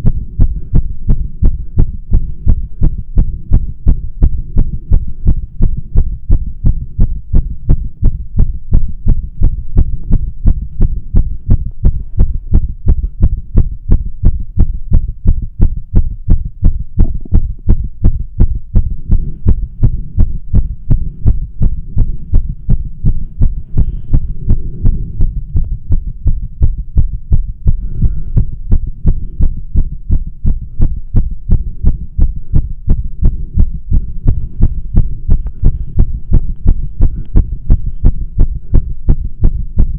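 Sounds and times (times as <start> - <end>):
fast heartbeat through stethoscope: 0.0 - 39.9.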